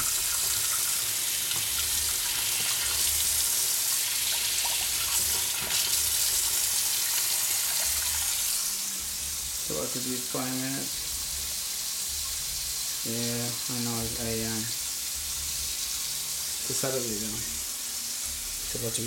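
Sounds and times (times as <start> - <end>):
pot of water boiling: 0.0 - 19.0.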